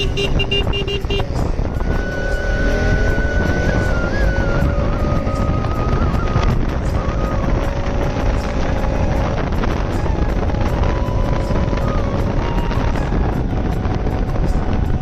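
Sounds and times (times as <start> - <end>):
motorcycle running: 0.0 - 15.0
wind rushing over microphone: 0.0 - 15.0.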